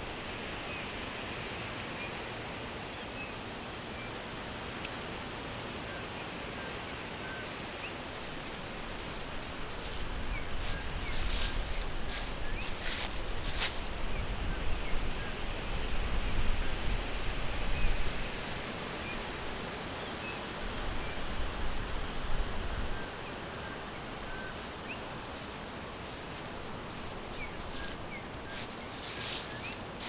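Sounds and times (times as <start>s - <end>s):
steady rushing forest noise: 0.0s - 14.5s, 18.4s - 30.0s.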